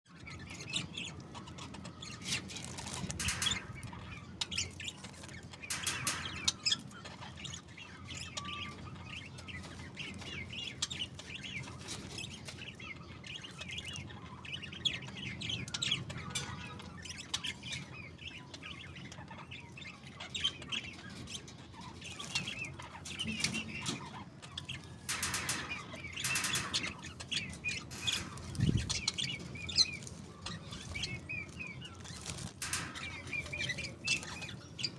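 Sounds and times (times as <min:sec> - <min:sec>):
budgerigars chattering: 0:00.3 - 0:34.9.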